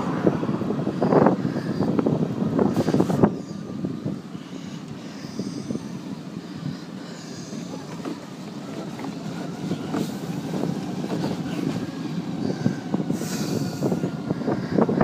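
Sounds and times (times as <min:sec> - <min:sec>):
electric trike rumbling: 0:00.0 - 0:15.0
wind on microphone: 0:00.0 - 0:15.0.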